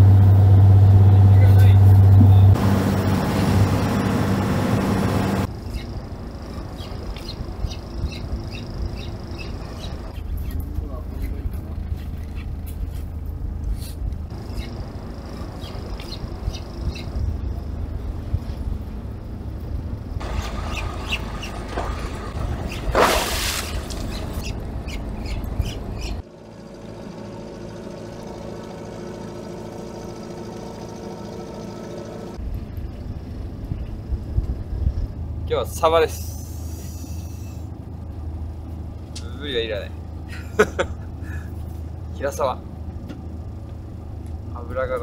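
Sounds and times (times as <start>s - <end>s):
wind and sea rumble: 0.0s - 26.2s, 31.2s - 45.0s
diesel boat engine humming: 0.0s - 45.0s.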